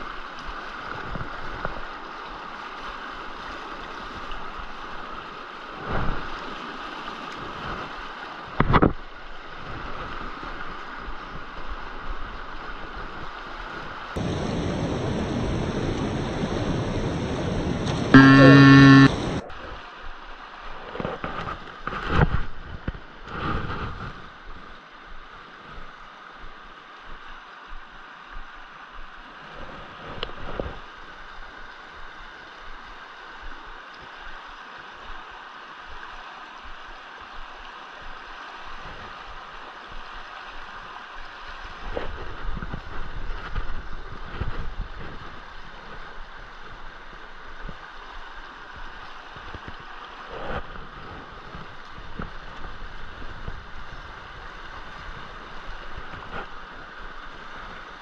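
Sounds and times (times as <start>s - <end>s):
creek running over stones: 0.0s - 15.6s, 19.7s - 58.0s.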